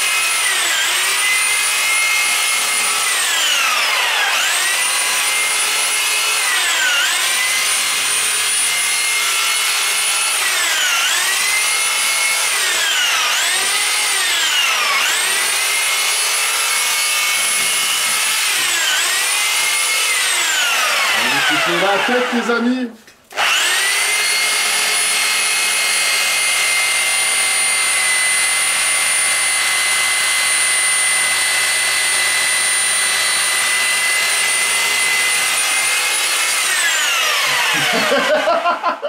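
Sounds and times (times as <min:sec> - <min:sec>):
reciprocating saw cutting wood: 0:00.0 - 0:22.6, 0:23.3 - 0:38.5.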